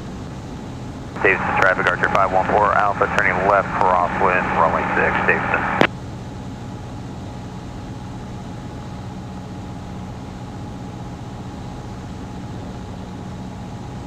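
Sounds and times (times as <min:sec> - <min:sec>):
plane engine droning in cabin: 0:00.0 - 0:14.0.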